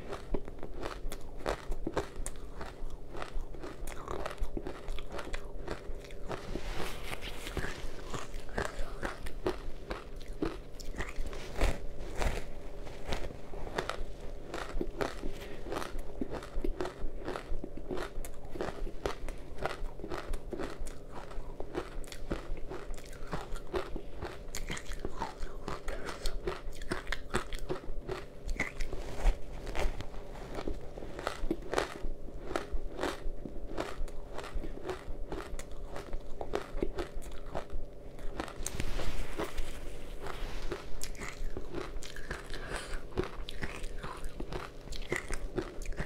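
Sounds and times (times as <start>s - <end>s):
ice being crunched and chewed: 0.0s - 46.0s.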